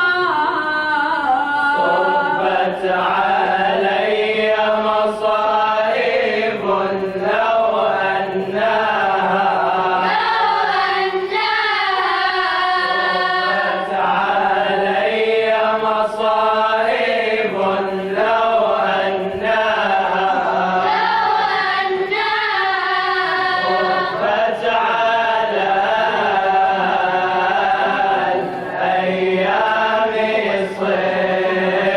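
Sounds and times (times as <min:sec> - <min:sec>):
vocal group chanting in unison: 0:00.0 - 0:31.9.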